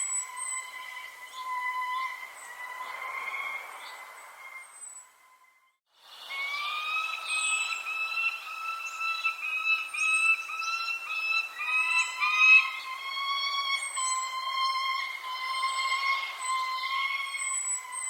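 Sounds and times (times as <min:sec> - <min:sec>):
bird whistling rising notes: 0:00.0 - 0:18.0
faint high bird chirps: 0:00.0 - 0:18.0
lower bird call: 0:00.0 - 0:18.0.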